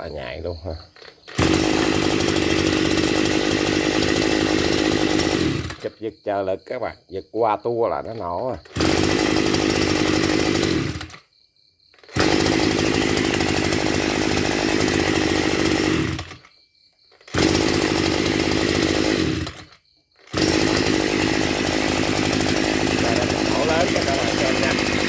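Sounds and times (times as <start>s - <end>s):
brush cutter engine idling: 0.0s - 6.8s, 7.6s - 11.3s, 11.9s - 16.5s, 17.1s - 25.0s
recoil starter pull: 0.8s - 6.0s, 8.0s - 11.3s, 11.9s - 25.0s.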